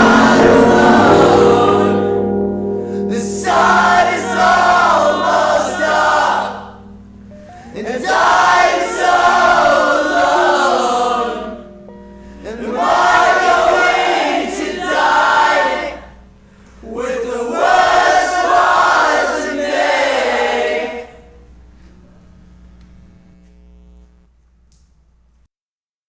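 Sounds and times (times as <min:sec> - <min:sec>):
group vocals singing together: 0:00.0 - 0:21.5.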